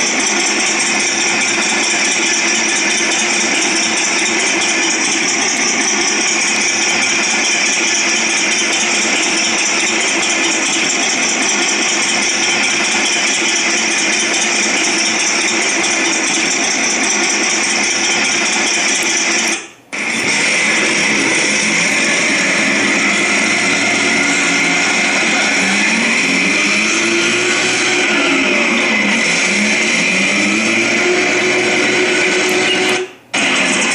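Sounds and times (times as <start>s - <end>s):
buzzy tank engine sound effect: 0.0s - 33.9s.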